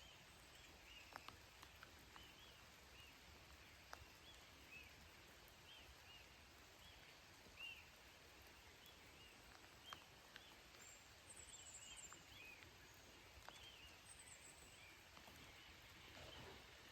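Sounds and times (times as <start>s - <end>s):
birds chirping: 0.0s - 16.9s
faint rain: 0.0s - 16.9s
water drips: 0.4s - 16.9s.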